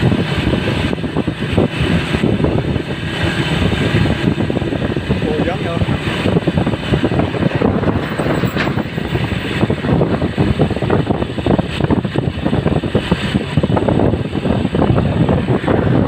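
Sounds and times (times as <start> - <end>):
vehicle engine and road noise: 0.0 - 16.0
wind buffeting microphone: 0.0 - 16.0.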